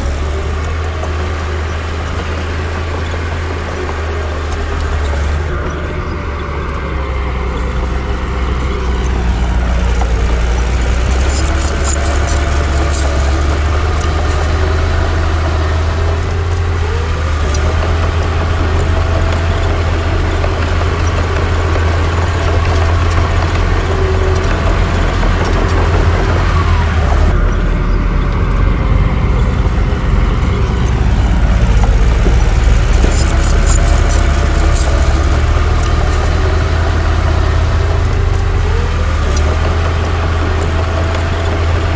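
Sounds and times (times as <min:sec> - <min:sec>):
heavy diesel engine running: 0:00.0 - 0:41.9
metallic clicks and clanks: 0:06.6 - 0:41.9.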